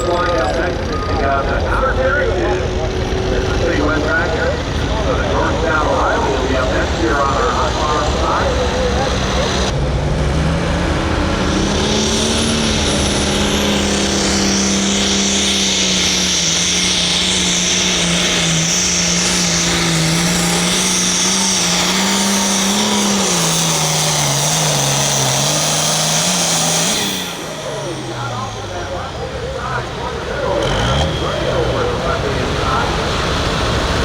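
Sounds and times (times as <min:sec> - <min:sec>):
diesel tractor engine at high revs: 0:00.0 - 0:34.0.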